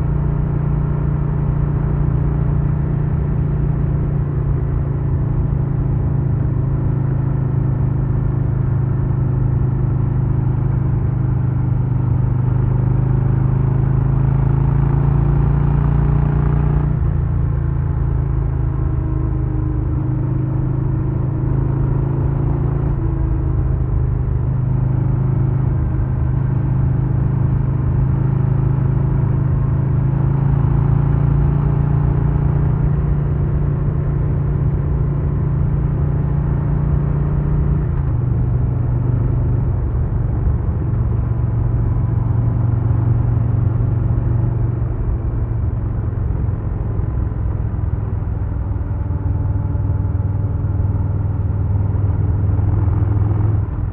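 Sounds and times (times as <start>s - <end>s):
motorcycle engine cruising: 0.9s - 53.9s.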